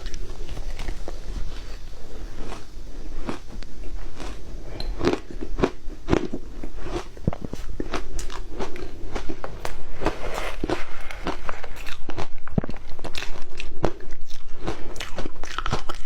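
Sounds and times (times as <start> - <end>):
person chewing crunchy ice: 0.0 - 16.0.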